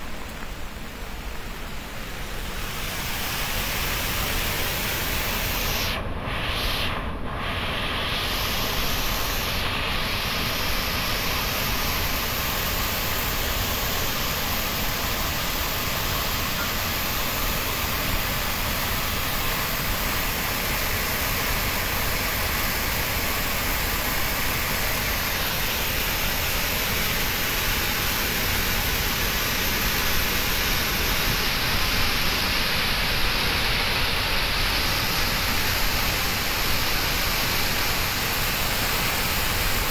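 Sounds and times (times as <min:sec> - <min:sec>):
water rushing from sluice: 0:07.5 - 0:39.9.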